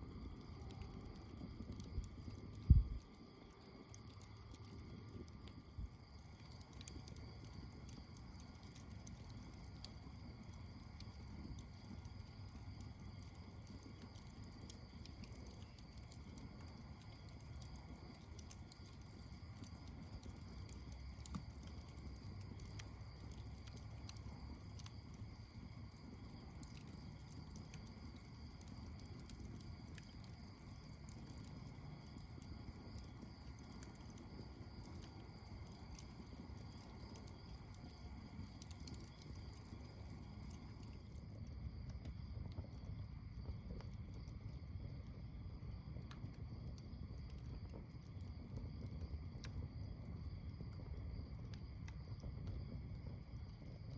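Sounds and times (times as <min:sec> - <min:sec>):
fire popping: 0:00.0 - 0:45.2, 0:45.8 - 0:53.8
campfire crackling: 0:00.0 - 0:53.9.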